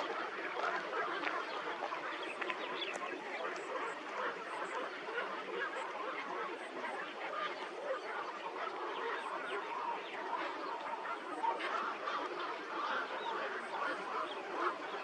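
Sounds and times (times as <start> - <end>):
flock of birds chattering: 0.0 - 15.0.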